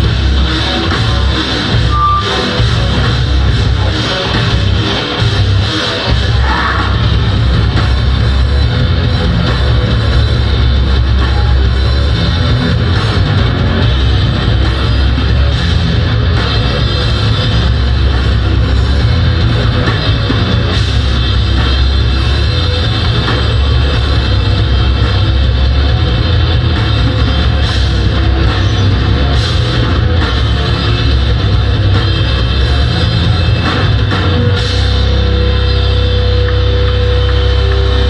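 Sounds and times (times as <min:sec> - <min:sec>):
distorted guitars and bass: 0:00.0 - 0:38.0
fast drumming with cymbals: 0:00.0 - 0:38.0.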